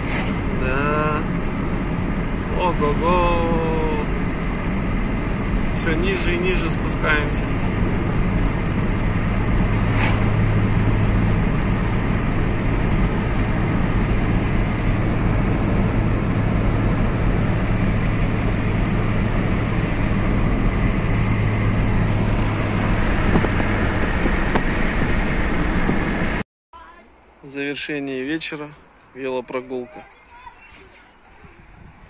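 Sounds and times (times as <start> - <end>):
car engine hum: 0.0 - 26.4
road noise: 0.0 - 32.0.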